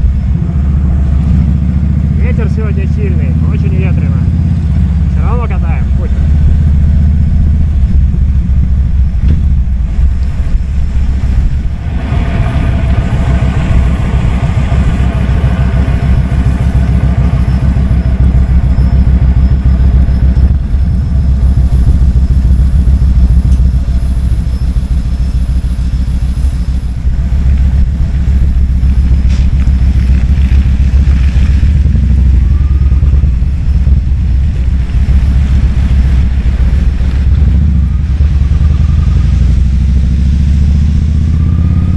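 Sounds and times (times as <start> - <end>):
wind on microphone: 0.0 - 2.8, 3.4 - 41.9
motorcycle engine running: 0.0 - 41.9.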